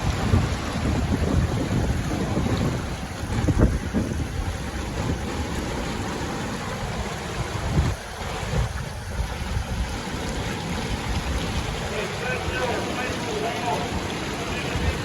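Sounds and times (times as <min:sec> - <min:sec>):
whitewater rapids rushing: 0:00.0 - 0:15.0
wind buffeting microphone: 0:00.0 - 0:15.0.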